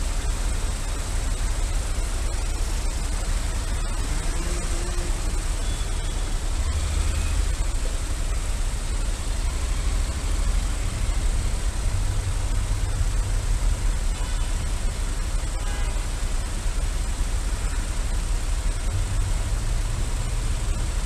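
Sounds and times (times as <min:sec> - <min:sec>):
microphone hiss and low rumble: 0:00.0 - 0:21.0
surrounding traffic: 0:00.0 - 0:21.0.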